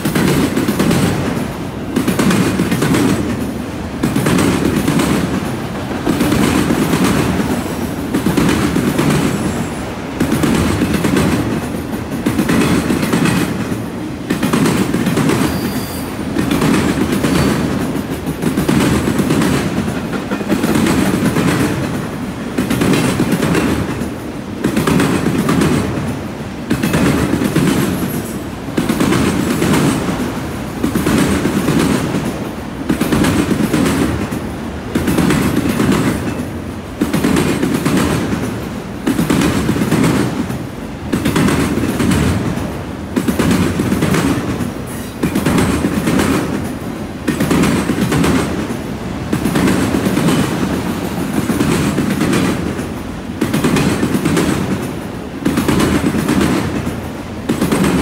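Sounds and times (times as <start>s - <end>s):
freight train wheels clacking: 0.0s - 58.0s.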